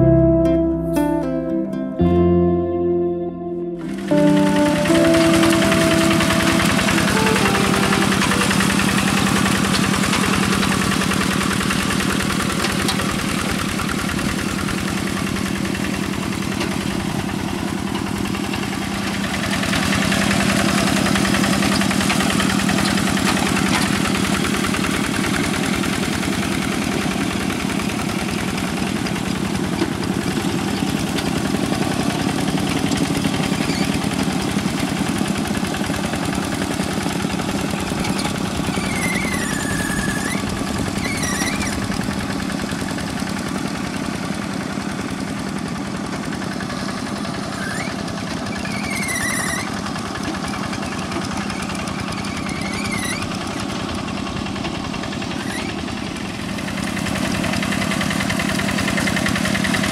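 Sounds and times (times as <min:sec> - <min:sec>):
hand tractor diesel engine chugging: 0:03.8 - 0:59.9
wheels churning through water: 0:03.9 - 0:59.9.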